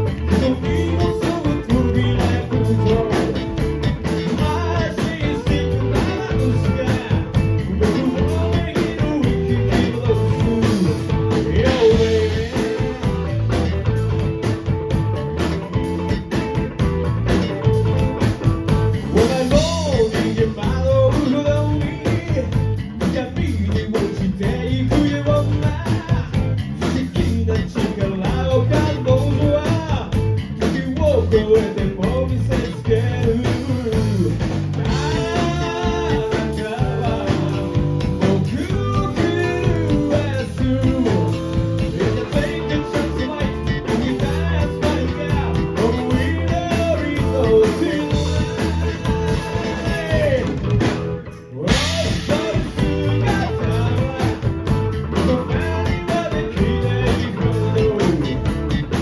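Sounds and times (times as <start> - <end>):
person singing: 0.0 - 13.6, 19.1 - 50.8, 51.5 - 59.0
bass guitar: 0.0 - 59.0
drums: 0.0 - 59.0
electric guitar: 0.0 - 59.0.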